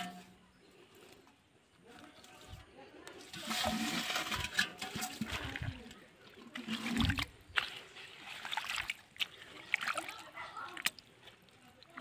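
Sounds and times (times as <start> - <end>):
muddy water splashing: 2.0 - 12.0.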